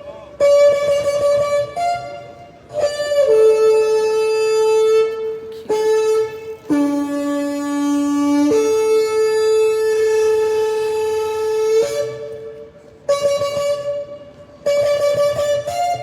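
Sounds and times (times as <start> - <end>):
shofar blasts: 0.0 - 16.0.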